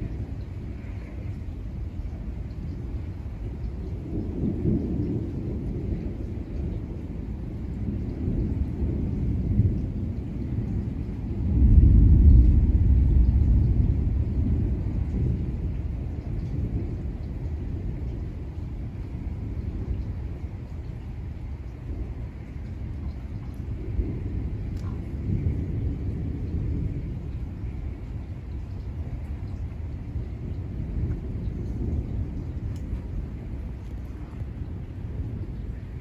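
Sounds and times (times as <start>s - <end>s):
thunder rumbling: 0.0s - 36.0s.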